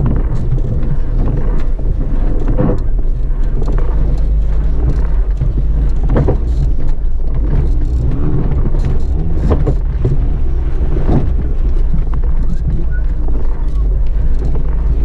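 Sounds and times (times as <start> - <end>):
body and suspension rattling: 0.0 - 15.0
vehicle engine running: 0.0 - 15.0.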